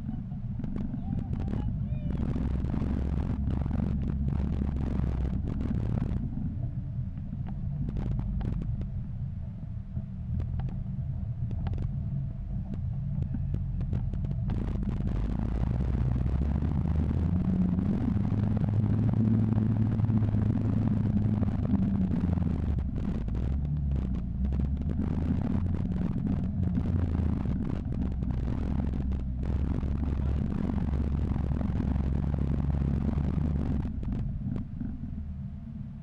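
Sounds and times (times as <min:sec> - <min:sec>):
vehicle engine driving on dirt: 0:00.0 - 0:06.6, 0:10.4 - 0:36.0.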